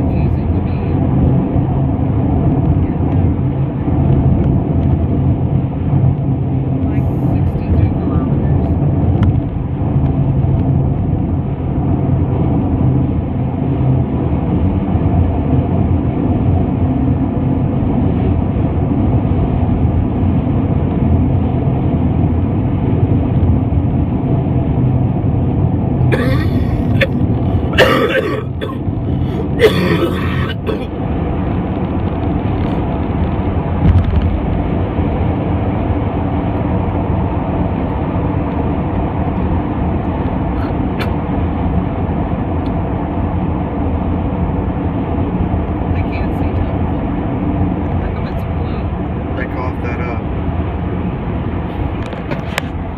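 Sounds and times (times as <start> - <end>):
road and engine drone in car: 0.0 - 52.9.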